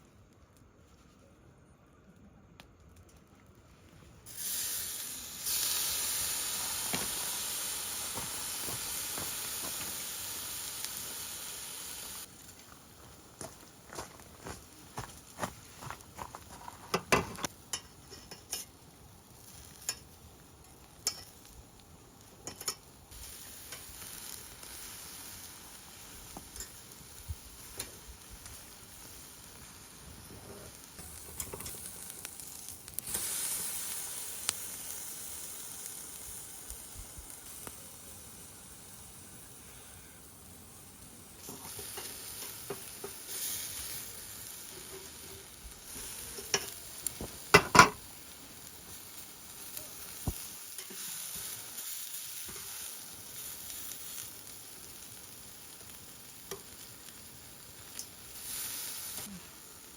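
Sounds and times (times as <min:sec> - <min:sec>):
meat sizzling on grill: 0:04.2 - 0:59.9.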